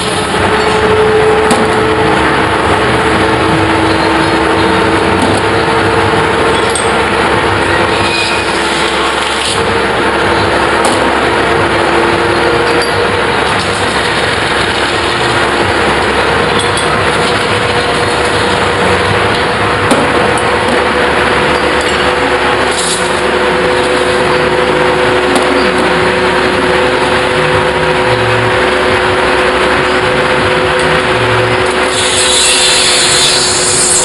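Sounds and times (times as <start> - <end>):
metal-spinning lathe rushing hum: 0.0 - 34.0.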